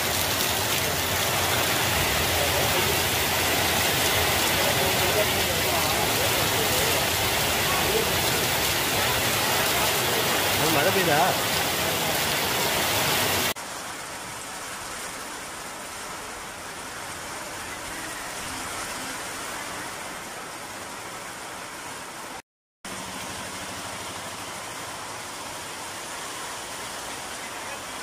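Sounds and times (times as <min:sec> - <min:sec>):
heavy rain falling: 0:00.0 - 0:28.0
traffic on a wet road: 0:00.0 - 0:28.0.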